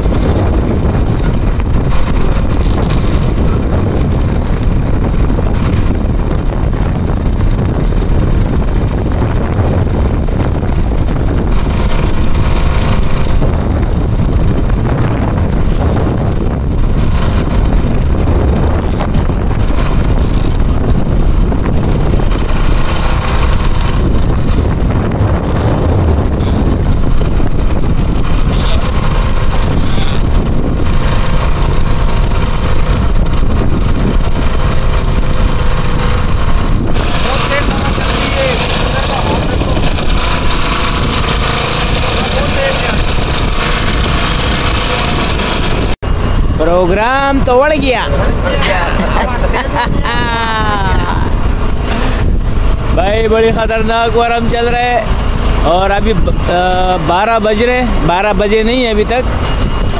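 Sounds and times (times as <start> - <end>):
strong wind buffeting microphone: 0.0 - 59.9.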